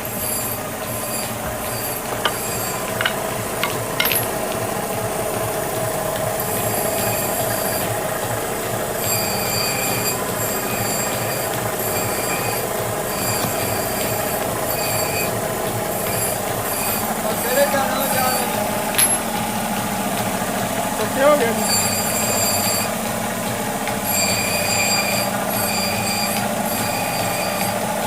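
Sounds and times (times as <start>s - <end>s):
high-pitched metallic squeal: 0.0s - 4.3s, 6.4s - 8.3s, 8.9s - 19.4s, 21.2s - 23.1s, 23.9s - 28.0s
workshop machine running: 0.0s - 28.0s.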